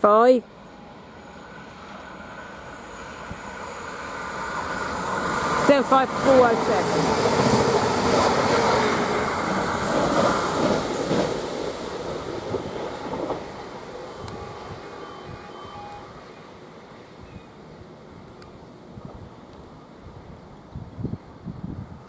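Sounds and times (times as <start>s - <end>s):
train passing through station: 0.0s - 22.0s.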